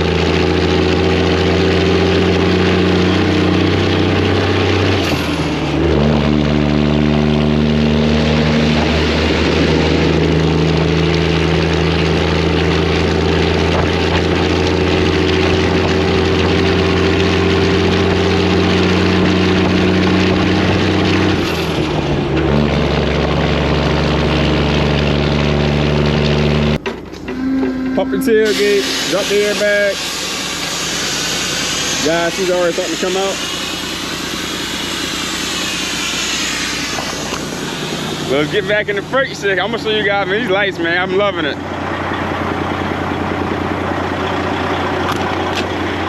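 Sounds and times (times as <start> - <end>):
diesel truck engine running: 0.0 - 46.0.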